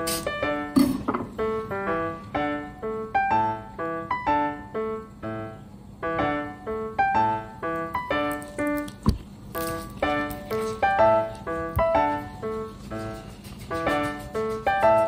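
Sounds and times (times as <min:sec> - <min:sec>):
light piano music: 0:00.0 - 0:15.0.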